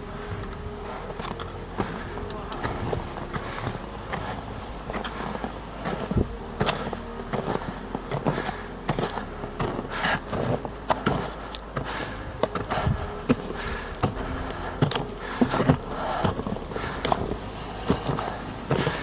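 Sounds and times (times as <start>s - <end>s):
faint steady hum: 0.0s - 19.0s
footsteps crunching in snow: 0.0s - 19.0s.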